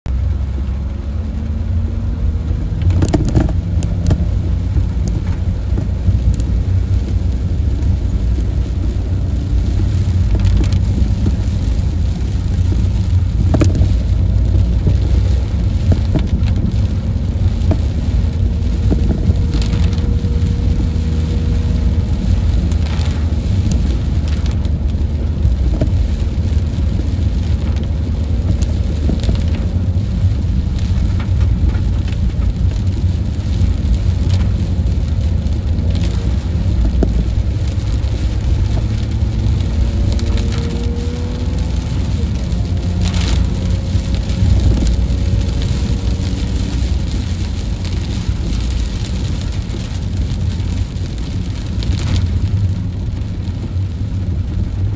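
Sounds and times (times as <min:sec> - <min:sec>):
engine and tyres on wet road: 0:00.0 - 0:54.9
heavy rain: 0:00.1 - 0:54.9.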